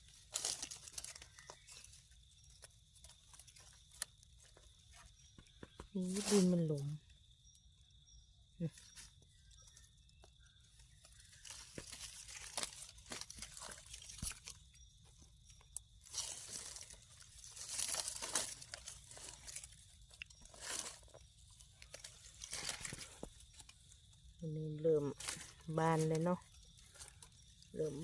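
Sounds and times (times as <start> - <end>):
digging in dry soil and leaves: 0.0 - 7.3, 8.7 - 28.0.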